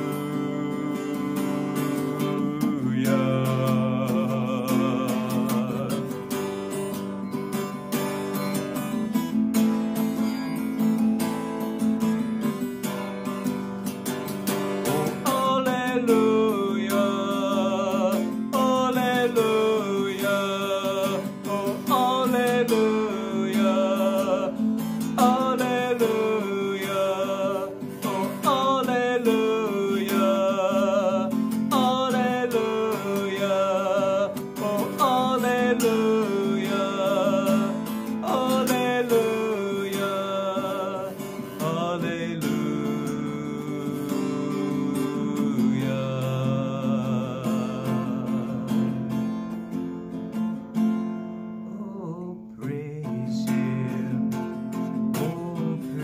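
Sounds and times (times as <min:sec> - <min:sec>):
man singing a hymn: 0:00.0 - 0:06.6, 0:14.4 - 0:49.3, 0:51.7 - 0:56.0
acoustic guitar strumming: 0:00.0 - 0:56.0.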